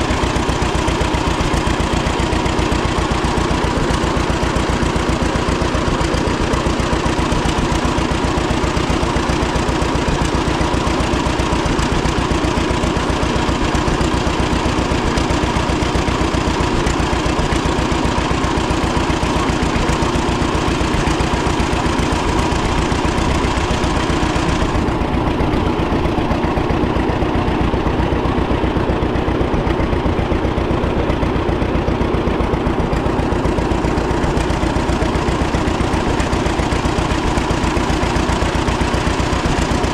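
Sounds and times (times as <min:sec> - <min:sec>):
two-cylinder tractor engine running: 0:00.0 - 0:39.9.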